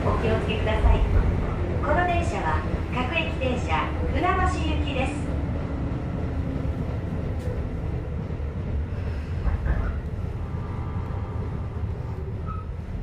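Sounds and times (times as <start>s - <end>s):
faint train whine: 0.0s - 13.0s
train wheels rumbling: 0.0s - 13.0s.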